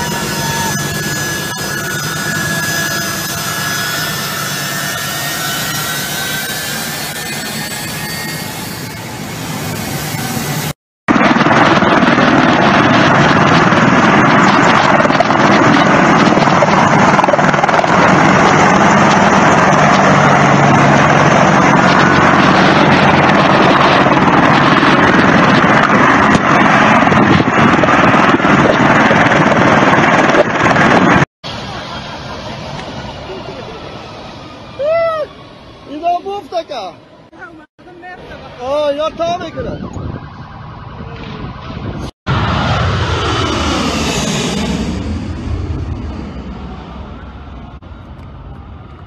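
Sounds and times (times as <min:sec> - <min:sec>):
helicopter rotor and engines: 0:00.0 - 0:49.0
jet engines whining: 0:00.0 - 0:49.0.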